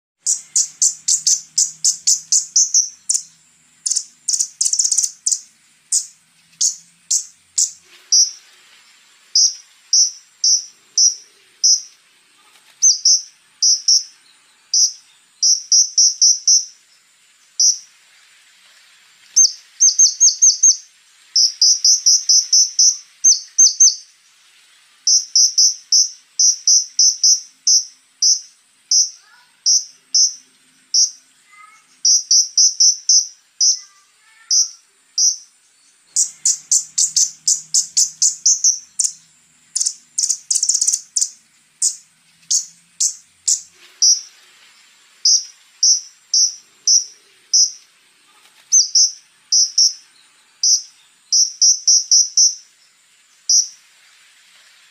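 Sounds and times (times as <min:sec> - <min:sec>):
bird singing high chirps: 0:00.2 - 0:08.5, 0:09.3 - 0:12.0, 0:12.8 - 0:17.9, 0:19.3 - 0:24.1, 0:25.1 - 0:44.3, 0:45.2 - 0:47.9, 0:48.6 - 0:52.7, 0:53.4 - 0:53.8
faint high insect trill: 0:00.2 - 0:54.9.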